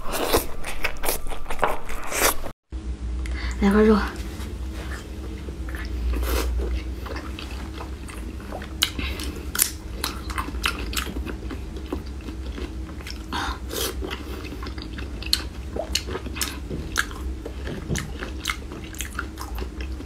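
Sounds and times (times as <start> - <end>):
chewing and mouth noises: 0.1 - 2.4, 4.8 - 20.0.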